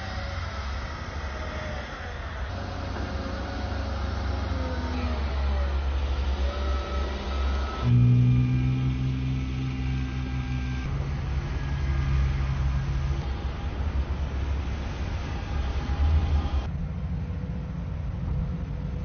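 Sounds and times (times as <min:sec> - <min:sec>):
diesel loader engine under load: 0:00.0 - 0:19.0
steady low hum: 0:00.0 - 0:19.0.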